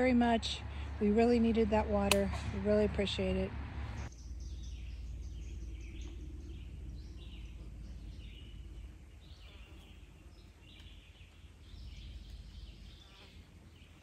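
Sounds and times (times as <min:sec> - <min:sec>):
low microphone rumble: 0:00.0 - 0:13.9
songbirds chirping: 0:00.0 - 0:14.0.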